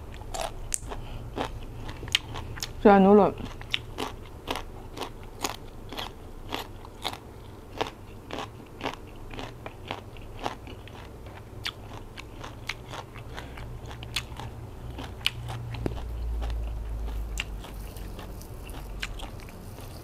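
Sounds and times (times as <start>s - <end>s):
chewing crunchy vegetable: 0.1s - 20.0s.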